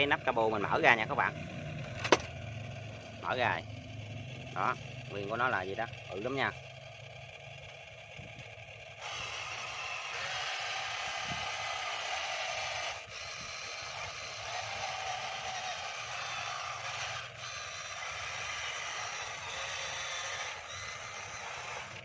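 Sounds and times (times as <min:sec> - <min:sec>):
model vehicle motor whirring: 0:00.0 - 0:22.0.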